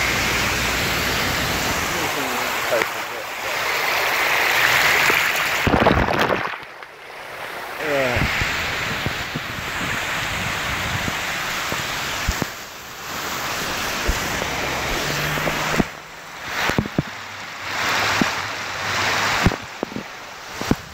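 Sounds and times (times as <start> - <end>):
heavy rain: 0.0 - 20.9
rushing water: 0.0 - 20.9.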